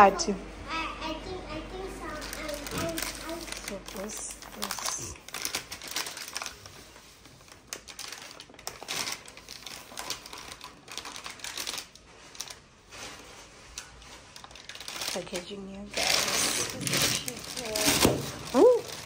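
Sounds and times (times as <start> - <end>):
plastic bag crinkling: 1.7 - 19.0.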